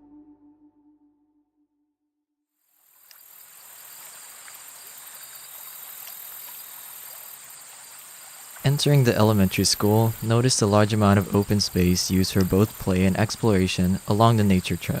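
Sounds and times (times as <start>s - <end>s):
insect chorus: 2.7s - 15.0s
soft hiss: 2.7s - 15.0s.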